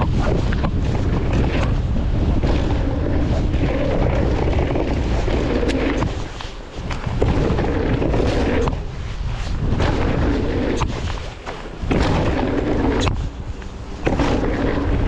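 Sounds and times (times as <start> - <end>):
bike rattling and knocking: 0.0 - 15.0
tyres rumbling on dirt: 0.0 - 15.0
wind buffeting microphone: 0.0 - 15.0.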